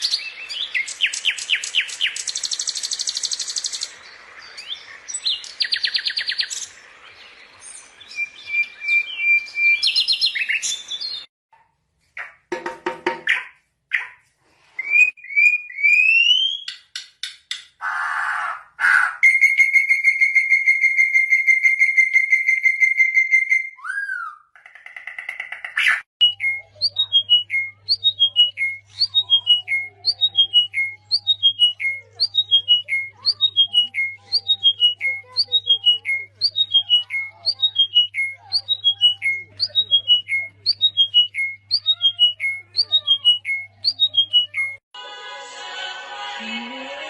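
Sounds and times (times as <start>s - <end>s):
songbird singing: 0.0s - 11.3s, 17.8s - 44.8s.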